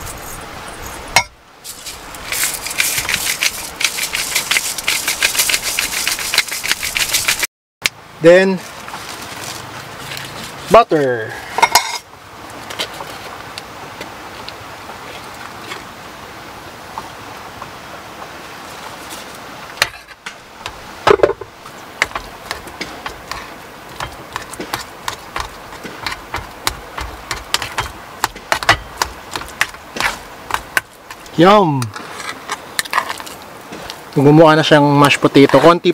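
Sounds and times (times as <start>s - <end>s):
steady hiss: 0.0s - 7.5s, 8.1s - 35.9s.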